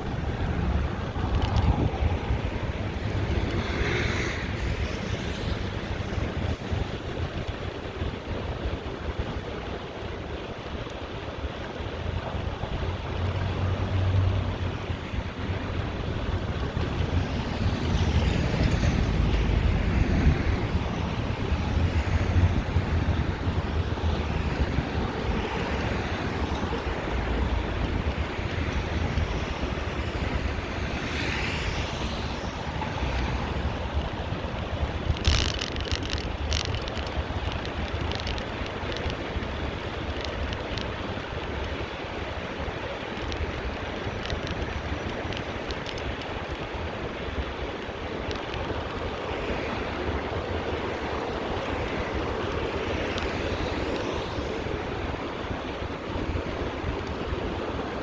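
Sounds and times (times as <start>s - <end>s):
road traffic passing: 0.0s - 58.0s
wind rushing over microphone: 0.0s - 58.0s.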